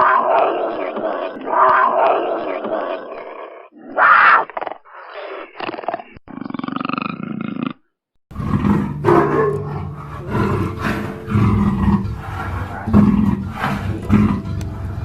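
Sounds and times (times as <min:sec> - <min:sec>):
big cat growling and roaring: 0:00.0 - 0:15.0.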